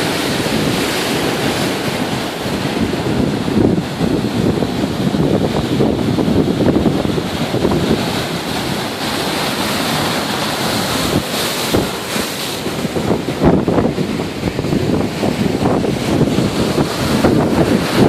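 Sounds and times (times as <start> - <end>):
surf breaking and washing: 0.0 - 18.0
wind buffeting microphone: 0.0 - 18.0.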